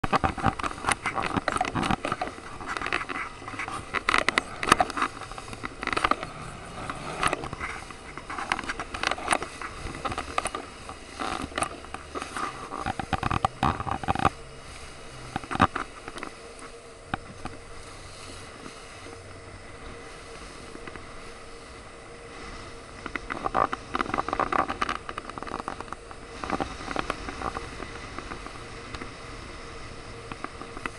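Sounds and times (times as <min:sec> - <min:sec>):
water splashing against boat: 0:00.0 - 0:30.9
wind noise: 0:00.0 - 0:30.9.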